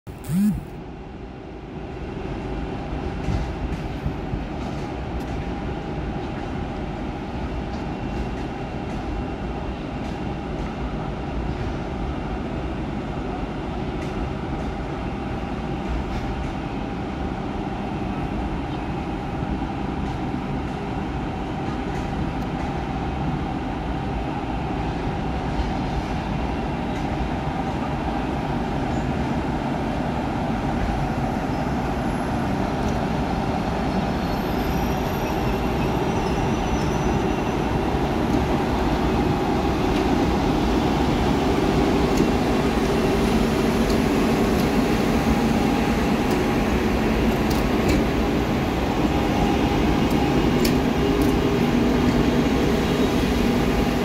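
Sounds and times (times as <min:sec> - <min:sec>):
electric locomotive hum and whine: 0:00.1 - 0:54.0.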